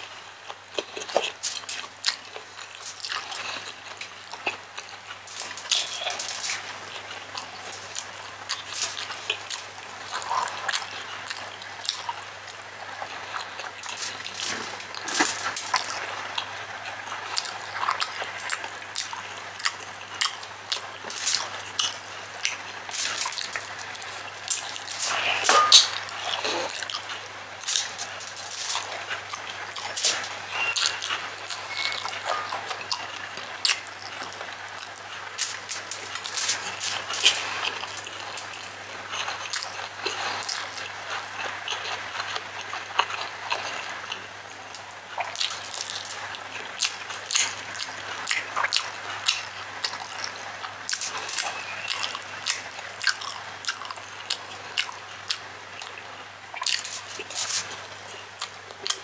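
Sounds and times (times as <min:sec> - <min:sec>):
chewing and wet lip-smacking: 0:00.0 - 0:59.0.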